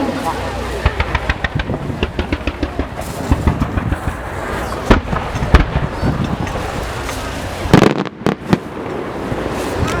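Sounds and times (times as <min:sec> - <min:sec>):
fireworks popping and crackling: 0:00.0 - 0:10.0
loud firework bangs: 0:00.8 - 0:10.0.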